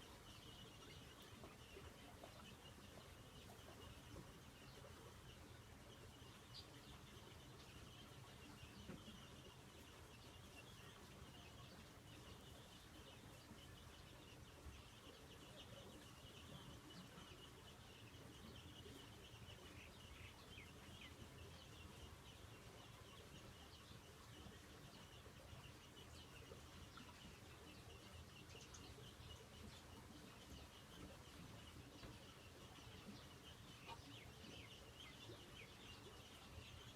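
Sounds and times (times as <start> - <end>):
faint birds chirping: 0.0 - 36.9.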